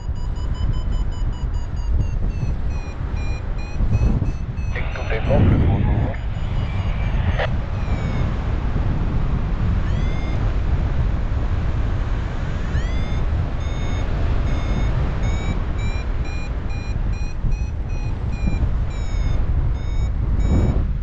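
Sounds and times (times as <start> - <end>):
variometer beeping: 0.0 - 8.6, 9.8 - 10.6, 12.6 - 21.0
wind rush on microphone: 0.0 - 21.0.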